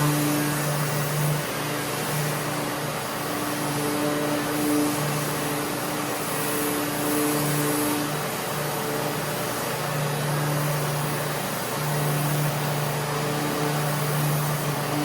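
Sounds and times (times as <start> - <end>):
dust extractor pulling air: 0.0 - 15.0
sander whirring: 0.0 - 15.0.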